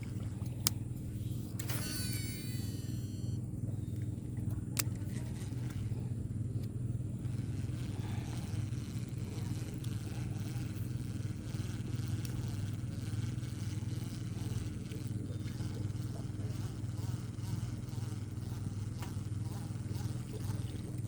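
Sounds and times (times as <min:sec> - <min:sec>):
small engine droning: 0:00.0 - 0:21.0.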